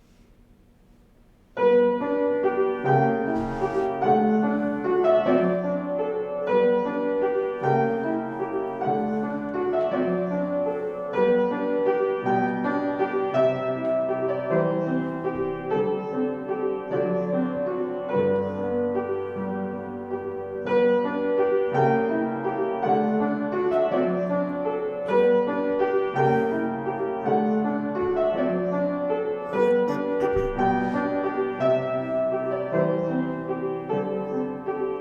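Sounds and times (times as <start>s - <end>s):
slow piano piece: 0.0s - 35.0s.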